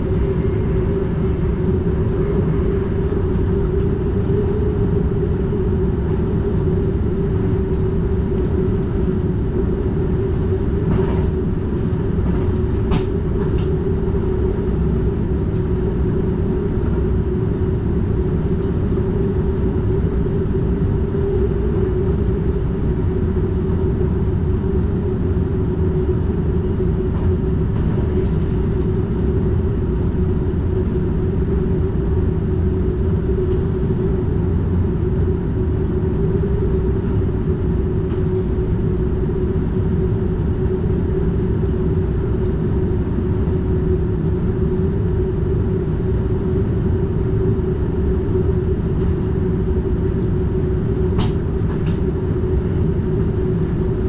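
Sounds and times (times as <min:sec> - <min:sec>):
train rumble and hum: 0:00.0 - 0:54.0.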